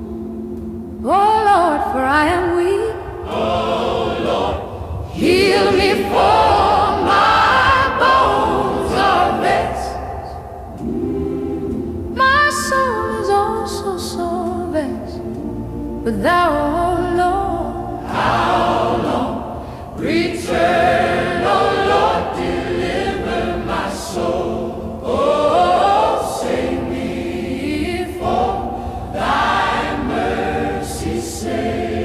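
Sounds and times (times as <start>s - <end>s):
gospel choir singing a hymn: 3.0s - 32.0s.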